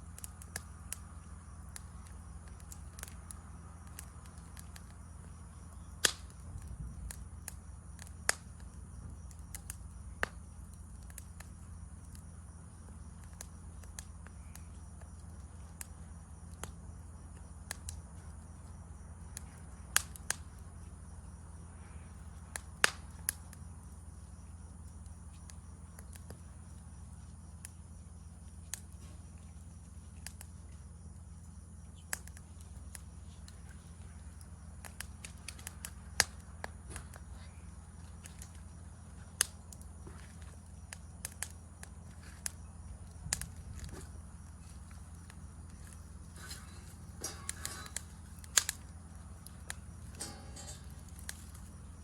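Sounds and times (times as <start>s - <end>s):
campfire crackling and popping: 0.0s - 52.0s
insects chirring: 0.0s - 52.0s
low hum: 0.0s - 52.0s.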